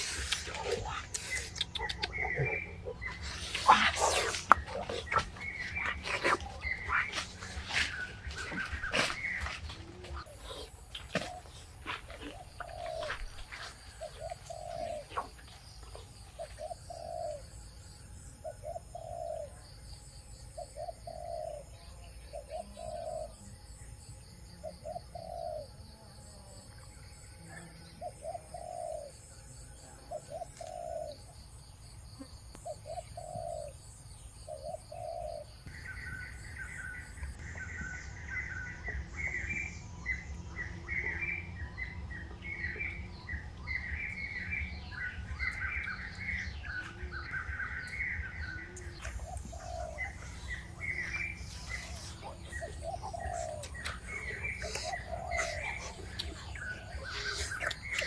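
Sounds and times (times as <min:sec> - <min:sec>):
bird calling with low notes: 0:00.0 - 0:26.0, 0:26.8 - 0:58.0
high insect drone: 0:00.0 - 0:58.0.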